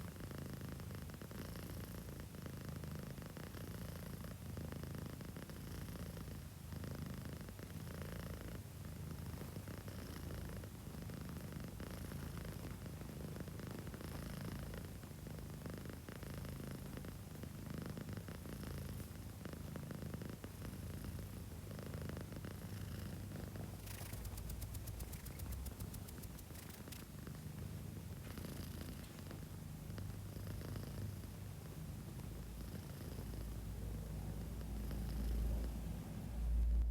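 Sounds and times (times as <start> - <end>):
cat snoring: 0.0 - 36.9.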